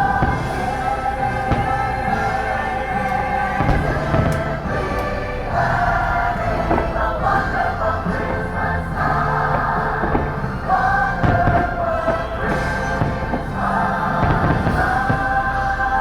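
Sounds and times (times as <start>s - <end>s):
dull thumps: 0.0s - 16.0s
orchestral music with choir: 0.0s - 16.0s.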